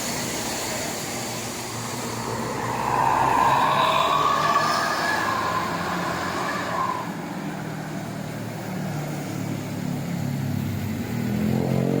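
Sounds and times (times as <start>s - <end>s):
bus engine accelerating: 0.0s - 12.0s.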